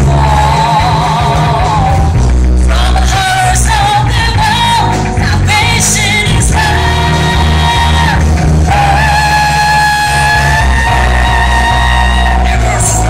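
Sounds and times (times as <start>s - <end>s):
live pop band: 0.0s - 13.0s
woman singing with vibrato: 0.0s - 13.0s.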